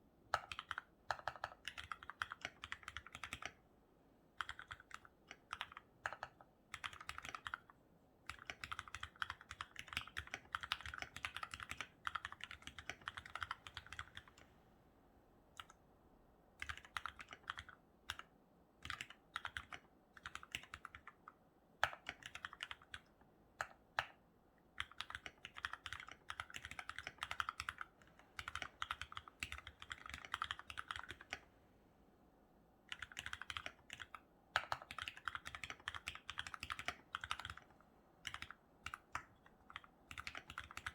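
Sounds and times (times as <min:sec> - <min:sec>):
mechanical keyboard typing: 0:00.3 - 0:03.6, 0:04.4 - 0:07.7, 0:08.3 - 0:14.4, 0:16.6 - 0:24.2, 0:24.8 - 0:31.4, 0:32.9 - 0:40.9.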